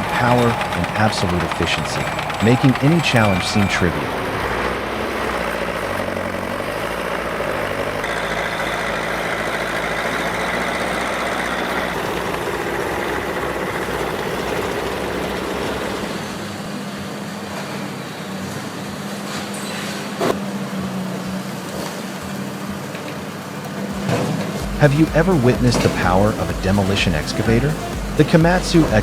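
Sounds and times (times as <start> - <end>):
diesel tractor engines running: 0.0 - 29.0.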